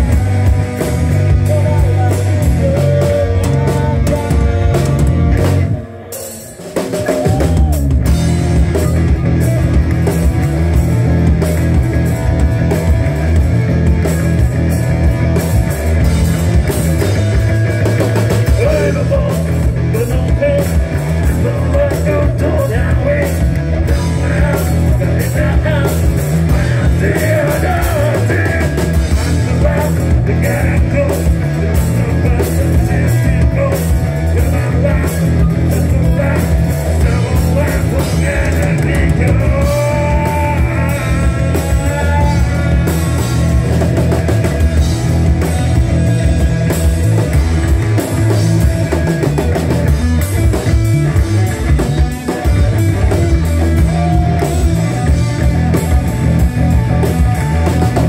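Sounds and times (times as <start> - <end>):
busy drumming: 0.0 - 58.0
electric bass line: 0.0 - 58.0.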